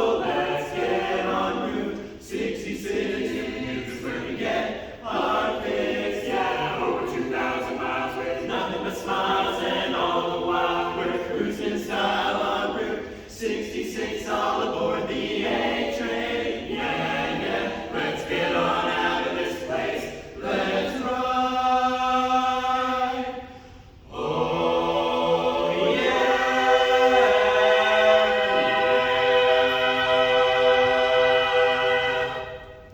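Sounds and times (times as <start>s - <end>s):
a cappella group singing: 0.0s - 32.9s.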